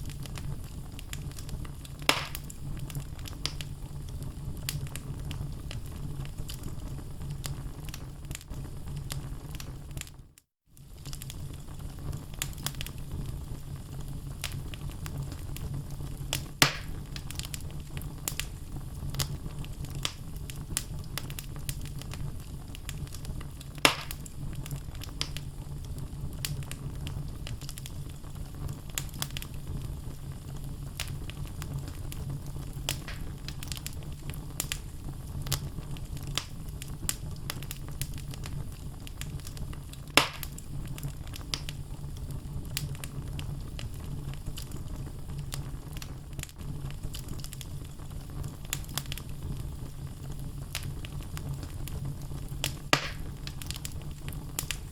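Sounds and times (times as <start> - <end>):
burning log pops: 0.0 - 10.1, 10.8 - 54.9
fire crackling: 0.0 - 54.9.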